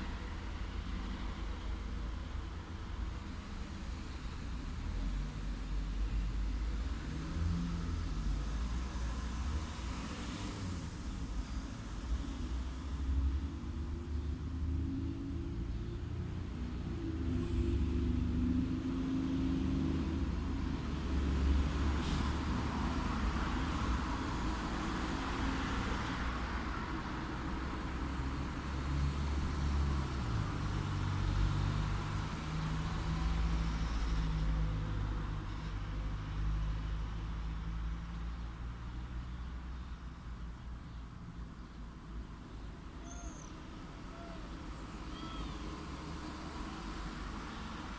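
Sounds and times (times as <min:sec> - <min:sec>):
low rumble of cars: 0:00.0 - 0:47.9
tyre noise of passing car: 0:00.0 - 0:47.9.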